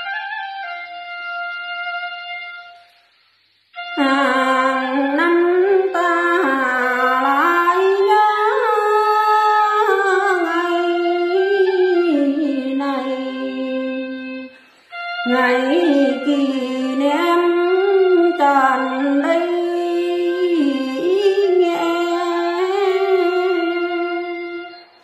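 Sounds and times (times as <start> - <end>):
woman singing: 4.0 - 24.8.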